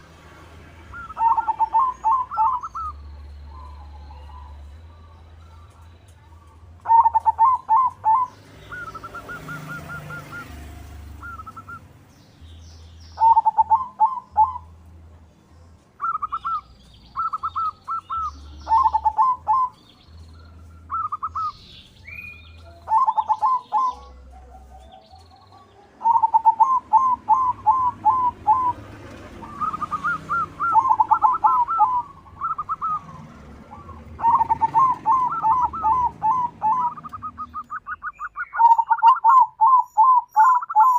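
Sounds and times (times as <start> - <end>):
doves cooing: 0.8 - 11.9, 13.2 - 14.8, 16.0 - 40.9.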